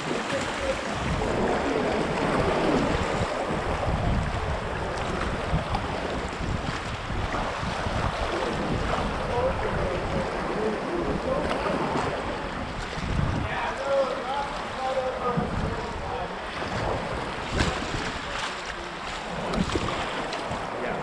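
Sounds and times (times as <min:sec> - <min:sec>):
river water rushing: 0:00.0 - 0:21.0
wind buffeting microphone: 0:00.0 - 0:21.0.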